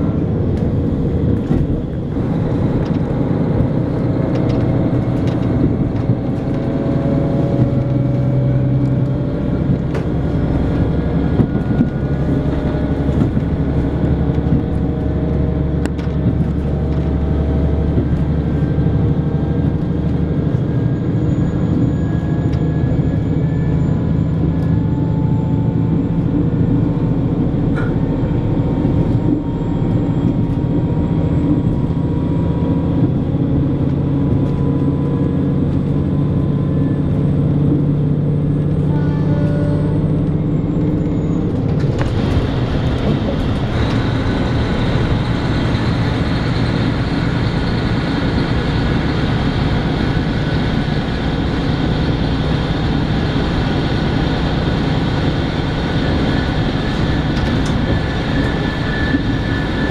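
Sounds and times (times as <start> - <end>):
diesel engine drone: 0.0 - 59.9
wheels rumbling on rail: 0.0 - 59.9.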